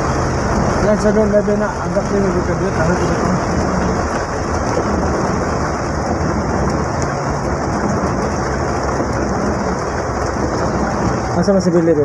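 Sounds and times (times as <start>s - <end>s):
engine humming low: 0.0s - 12.0s
rain on roof and windows: 0.0s - 12.0s.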